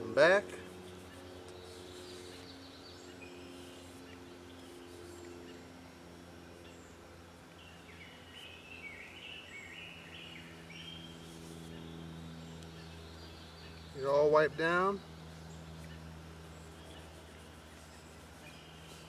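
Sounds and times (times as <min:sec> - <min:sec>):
steady low hum: 0:00.0 - 0:19.0
bird chirping: 0:00.8 - 0:19.0.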